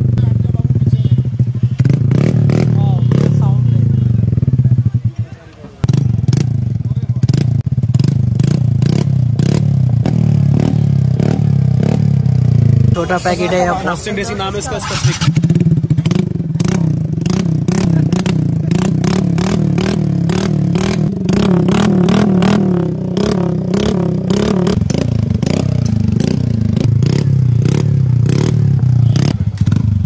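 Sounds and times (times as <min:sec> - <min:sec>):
scooter exhaust drone: 0:00.0 - 0:30.0.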